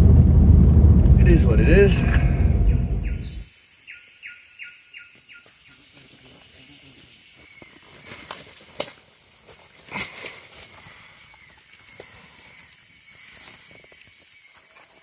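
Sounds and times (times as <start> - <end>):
high-pitched insect chorus: 1.3 - 15.0.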